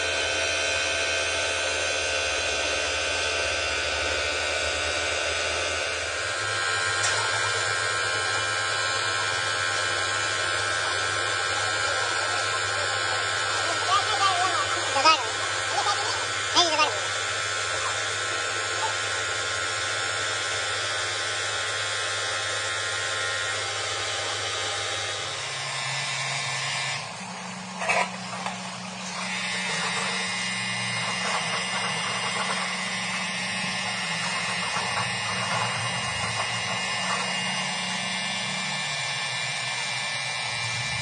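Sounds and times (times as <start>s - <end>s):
die grinder polishing metal rod: 0.0s - 41.0s.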